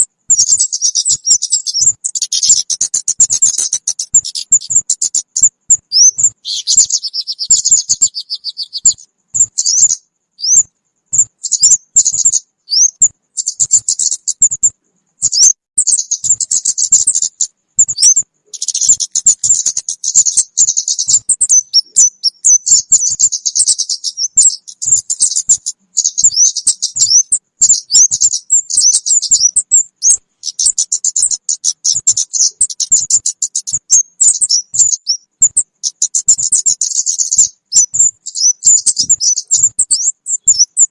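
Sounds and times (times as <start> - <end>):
recorded bird chirps and trills: 0.0 - 40.9.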